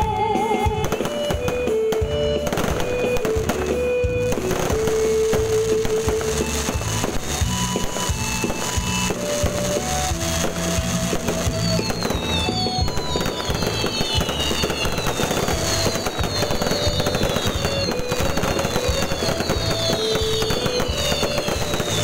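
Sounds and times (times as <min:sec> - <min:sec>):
fireworks crackling and popping: 0:00.0 - 0:22.0
falling firework whistles: 0:00.6 - 0:22.0.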